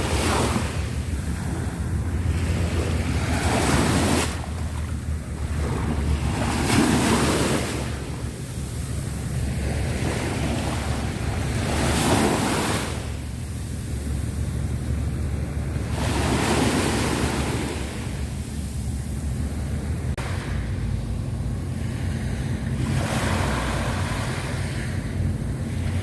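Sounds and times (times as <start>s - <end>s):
surf washing onto shore: 0.0s - 26.0s
wind rumble on microphone: 0.0s - 26.0s.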